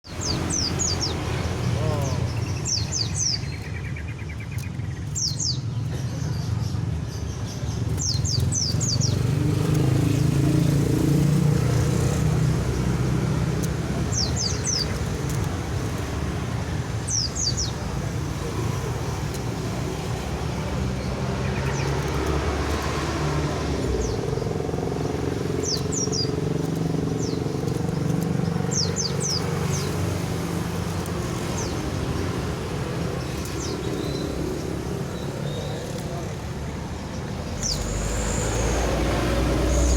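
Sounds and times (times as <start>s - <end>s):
low traffic rumble: 0.0s - 39.9s.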